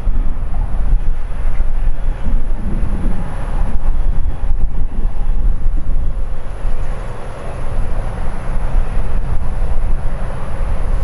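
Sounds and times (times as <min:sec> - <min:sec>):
aircraft engines roaring: 0:00.0 - 0:11.0.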